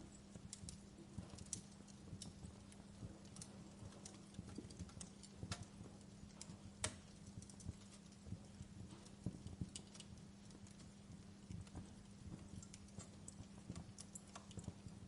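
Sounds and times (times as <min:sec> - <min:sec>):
faint steady hum: 0:00.0 - 0:15.0
wood fire crackling: 0:00.0 - 0:15.0.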